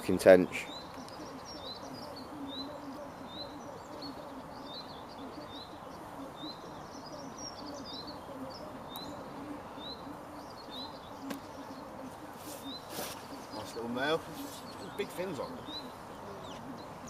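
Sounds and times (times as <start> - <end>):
small bird chirping: 0.4 - 17.0
lower bird call: 0.6 - 17.0.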